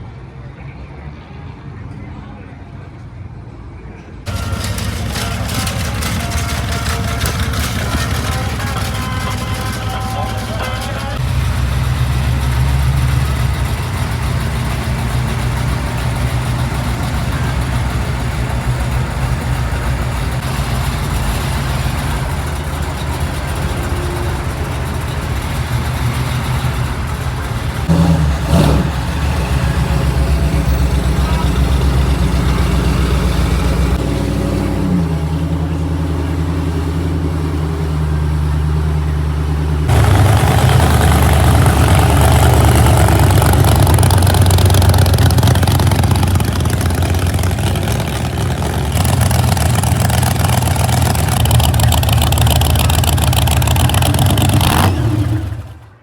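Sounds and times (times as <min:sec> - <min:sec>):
car engines idling: 0:04.0 - 0:56.0.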